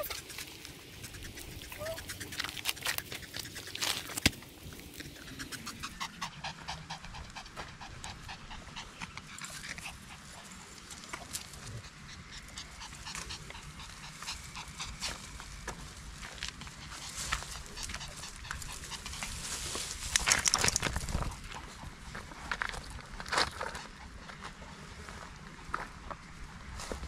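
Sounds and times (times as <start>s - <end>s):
small dog panting: 0.0s - 25.4s.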